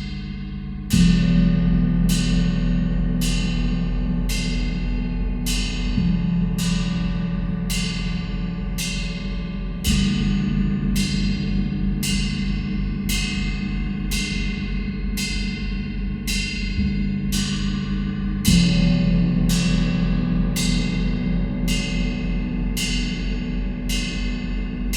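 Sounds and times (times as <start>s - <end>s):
low gong hum: 0.0s - 24.9s.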